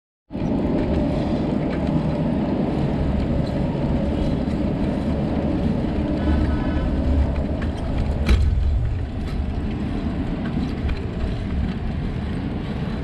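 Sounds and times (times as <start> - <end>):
road noise: 0.3 - 13.0
wind buffeting: 0.3 - 13.0.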